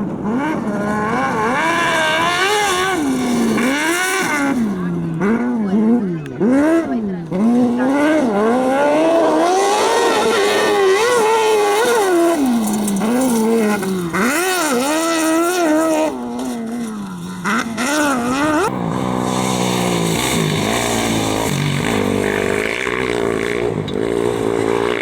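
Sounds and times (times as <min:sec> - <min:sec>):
car engine revving hard: 0:00.0 - 0:25.0
lower steady engine note: 0:00.0 - 0:25.0.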